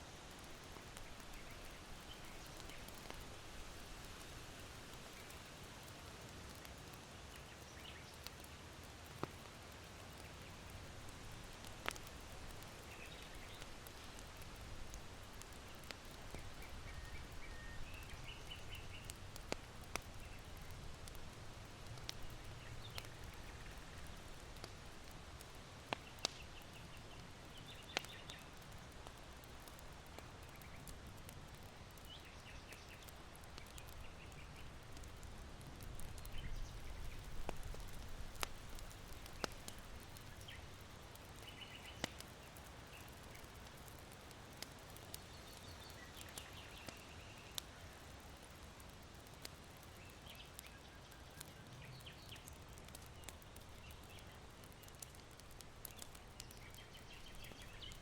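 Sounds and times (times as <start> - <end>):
embers crackling and popping: 0.0 - 58.0.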